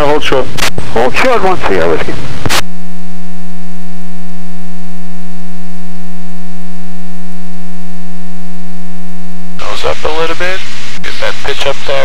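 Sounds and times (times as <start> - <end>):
loud low electrical buzz: 0.0 - 12.0.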